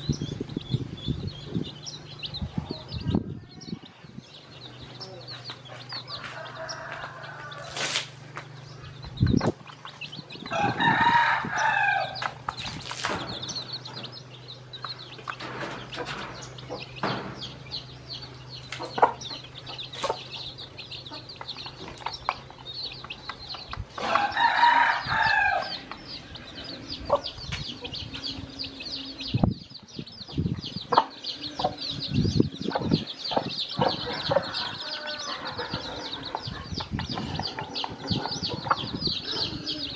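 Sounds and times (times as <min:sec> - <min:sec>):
chicks peeping: 0:00.0 - 0:39.9
chicken calls: 0:04.7 - 0:29.5, 0:30.3 - 0:39.9.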